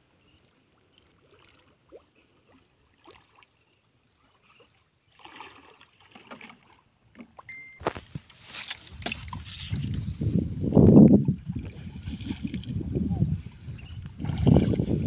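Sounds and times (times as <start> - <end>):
floodwater swishing and sloshing: 0.2 - 7.5, 8.1 - 15.0.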